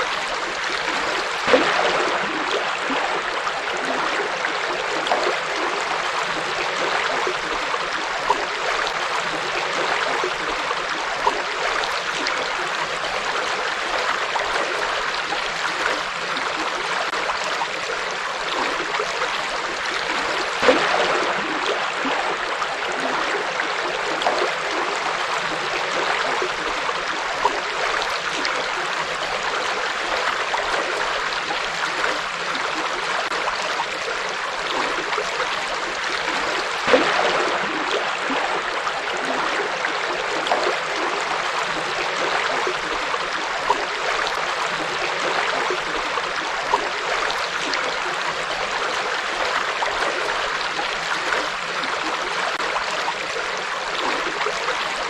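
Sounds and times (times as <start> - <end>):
water splashing and gurgling: 0.0 - 55.0.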